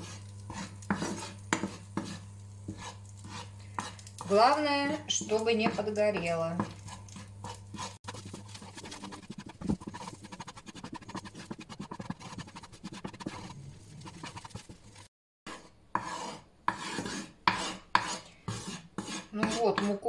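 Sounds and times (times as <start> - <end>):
metal spoon scraping a frying pan: 0.0 - 20.0.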